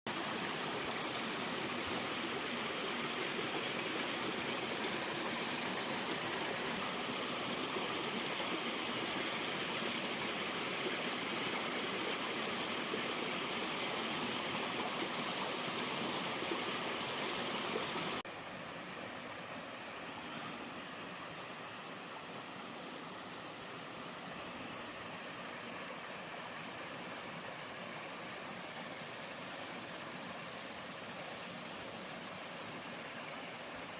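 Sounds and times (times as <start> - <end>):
stream and waterfall rushing: 0.1 - 33.9.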